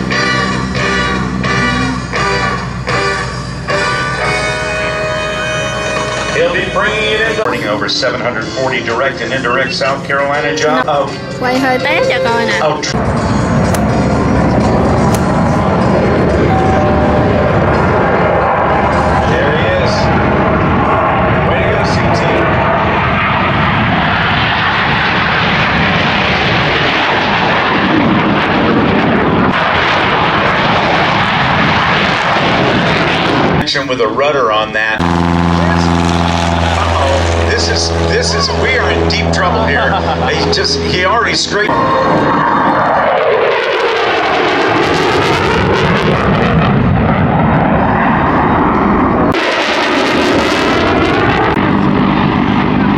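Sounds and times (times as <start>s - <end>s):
airplane engine roaring: 0.0s - 52.9s.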